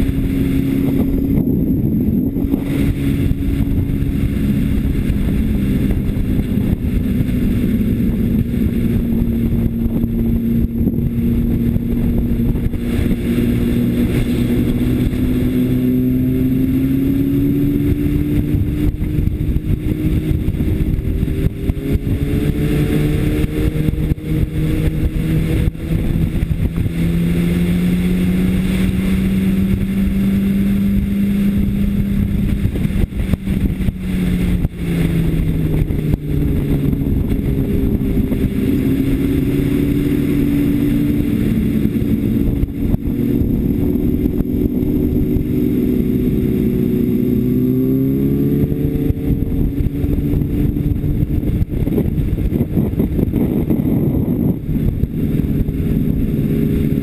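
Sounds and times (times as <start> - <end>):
motorcycle engine running hard: 0.0 - 57.0
wind noise: 0.0 - 57.0.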